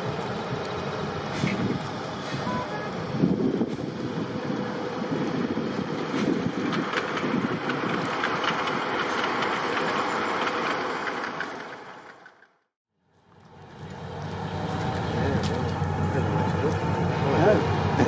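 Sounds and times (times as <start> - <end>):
train rumbling on rails: 0.0 - 12.7, 13.4 - 18.0.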